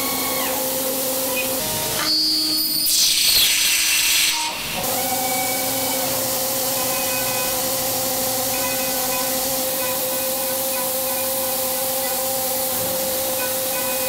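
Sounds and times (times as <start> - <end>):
loud hiss: 0.0 - 14.0
milling machine cutting metal: 0.0 - 14.0.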